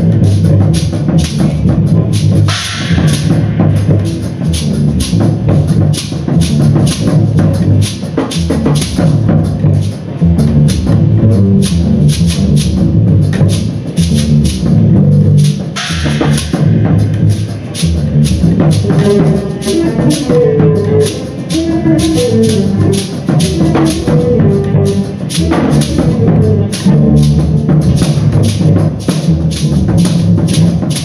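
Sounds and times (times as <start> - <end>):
low sustained tones: 0.0 - 31.0
rapid drum strikes: 0.0 - 31.0.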